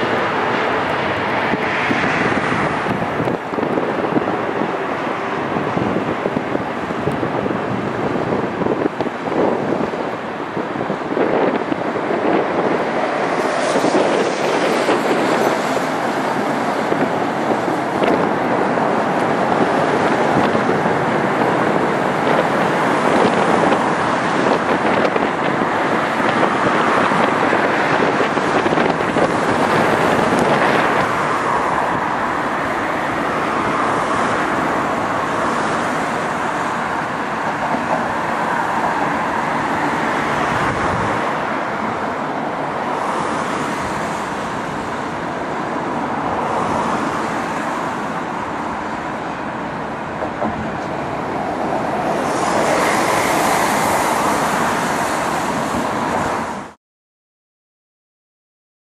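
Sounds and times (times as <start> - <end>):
distant jet engines rushing: 0.0 - 56.8.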